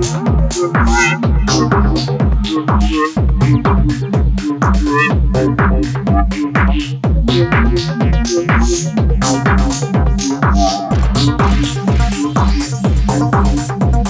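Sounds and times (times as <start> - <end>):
electronic dance music: 0.0 - 14.0.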